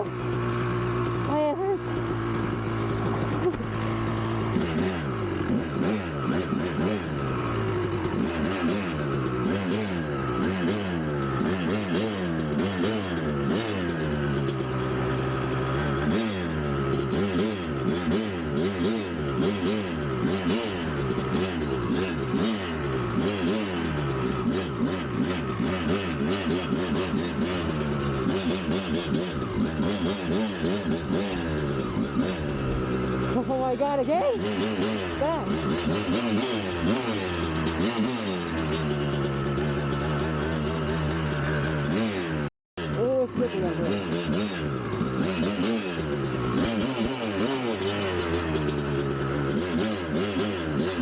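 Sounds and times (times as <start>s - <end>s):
two-stroke engine revving: 0.0s - 51.0s.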